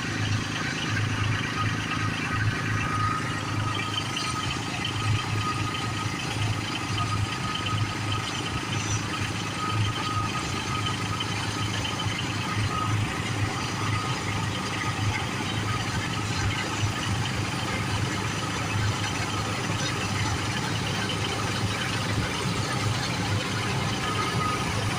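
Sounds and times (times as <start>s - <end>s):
combine harvester engine: 0.0s - 24.9s.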